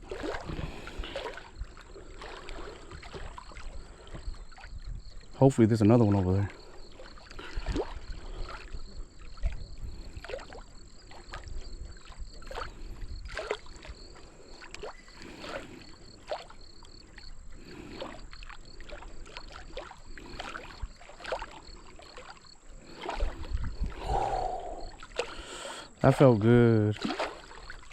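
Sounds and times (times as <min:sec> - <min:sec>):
water slapping boat hull: 0:00.0 - 0:27.9.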